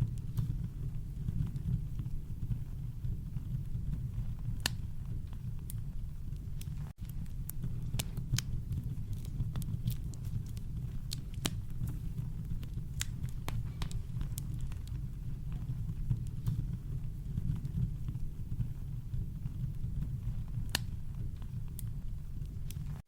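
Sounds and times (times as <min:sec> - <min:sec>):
campfire crackling and popping: 0:00.0 - 0:23.0
deep fire rumble: 0:00.0 - 0:23.0.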